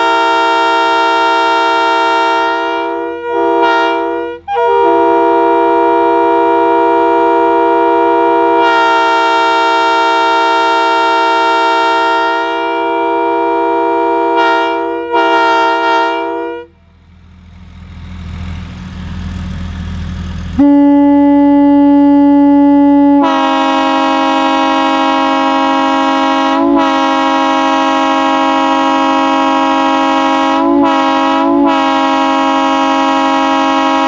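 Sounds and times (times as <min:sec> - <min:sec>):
train air horn chord: 0:00.0 - 0:16.8, 0:20.6 - 0:34.0.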